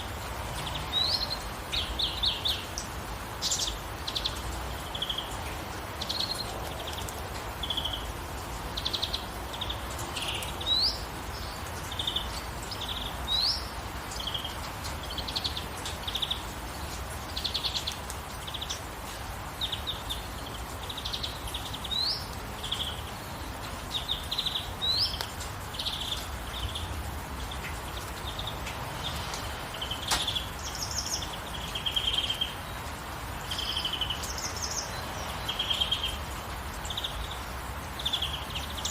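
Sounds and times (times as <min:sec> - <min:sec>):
falling rain hiss: 0:00.0 - 0:38.9
songbirds chirping and trilling: 0:00.0 - 0:38.9.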